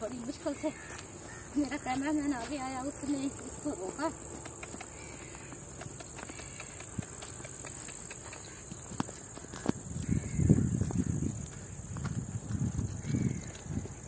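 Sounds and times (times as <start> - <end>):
footsteps on dirt: 0.0 - 14.0
insects chirring: 0.0 - 14.0.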